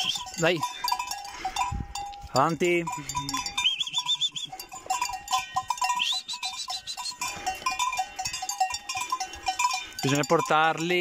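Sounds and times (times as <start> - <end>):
calf bells clanking: 0.0 - 11.0
soft hoof steps: 0.0 - 11.0.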